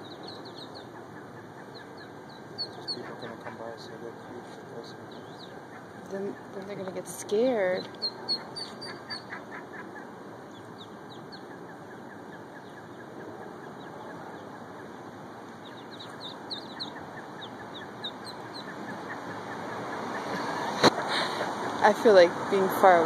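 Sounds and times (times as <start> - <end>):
ducklings peeping: 0.0 - 21.8.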